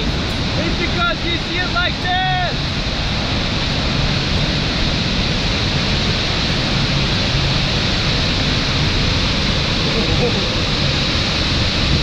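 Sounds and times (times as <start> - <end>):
rush of waterfall: 0.0 - 12.0.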